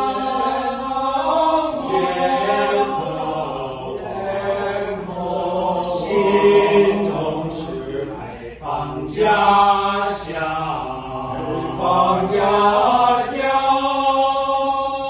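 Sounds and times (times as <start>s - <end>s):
male ensemble singing a cappella: 0.0s - 15.0s.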